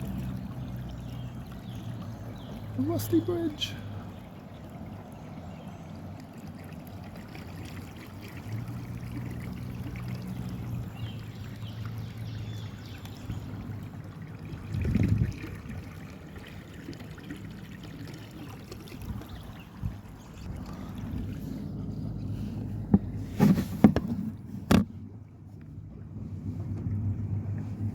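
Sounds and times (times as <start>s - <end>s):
water trickling along hull: 0.0s - 27.9s.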